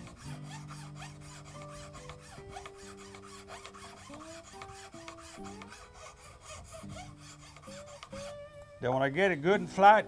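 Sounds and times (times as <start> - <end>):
hand file rasping on wood: 0.0 - 8.6.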